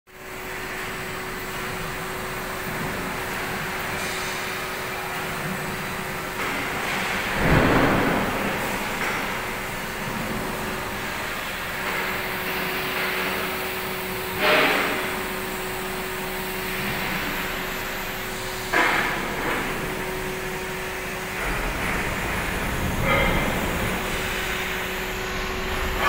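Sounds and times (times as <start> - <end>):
steady hum: 0.2 - 26.0
machinery noise: 1.5 - 26.0.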